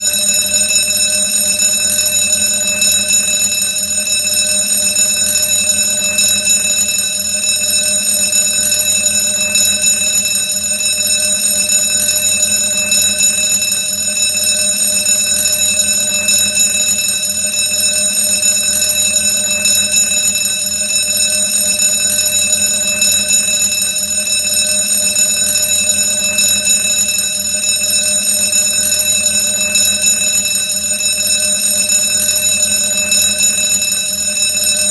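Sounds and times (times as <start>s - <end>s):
alarm bell ringing: 0.0s - 34.9s.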